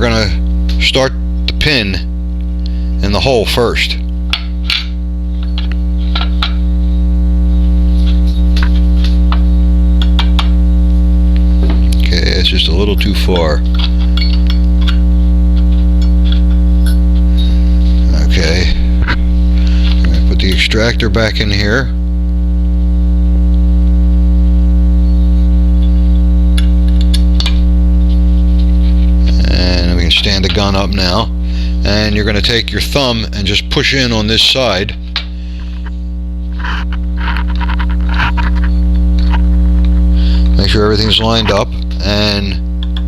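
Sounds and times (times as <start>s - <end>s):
electrical mains hum: 0.0s - 43.0s.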